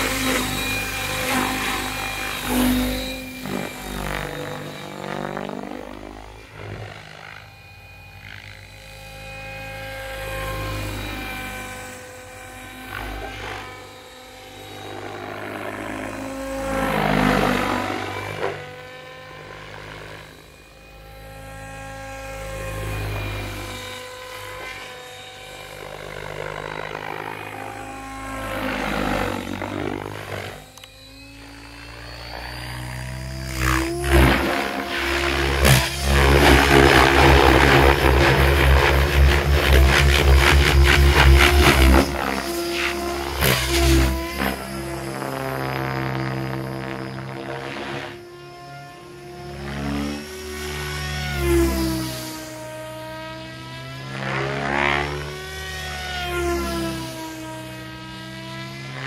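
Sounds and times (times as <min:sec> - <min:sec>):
model helicopter rotors whining: 0:00.0 - 0:59.0.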